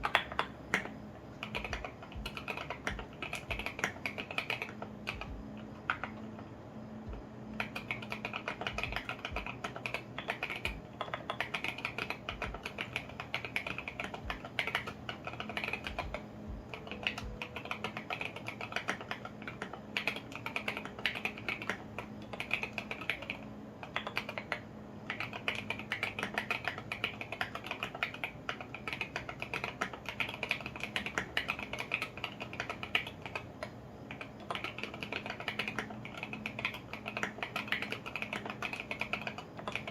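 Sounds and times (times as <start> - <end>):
mechanical keyboard typing: 0.0 - 6.4, 7.1 - 39.9.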